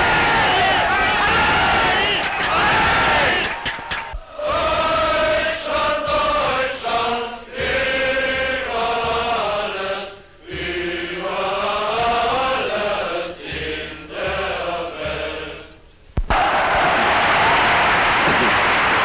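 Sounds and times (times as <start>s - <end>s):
large crowd singing together: 0.0s - 15.8s.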